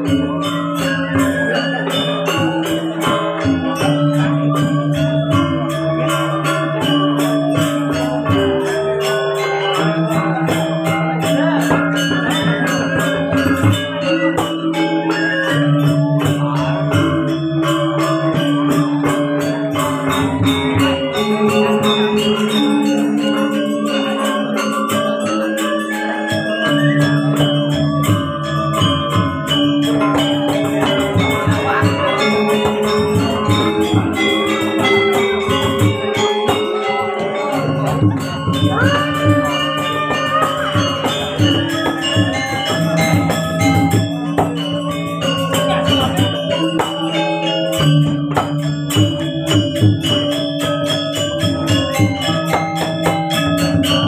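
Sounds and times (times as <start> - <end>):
gamelan playing: 0.0 - 54.0.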